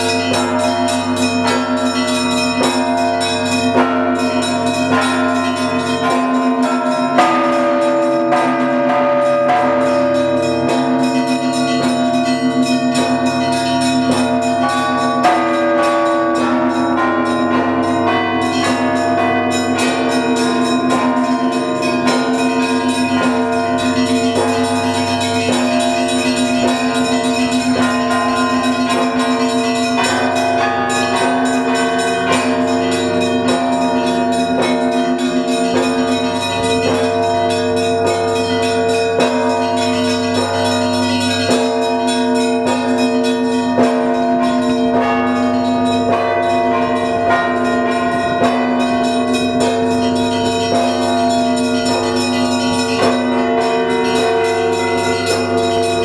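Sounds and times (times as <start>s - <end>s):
large bells sustained tones: 0.0s - 56.0s
small church bells striking quickly: 0.0s - 56.0s.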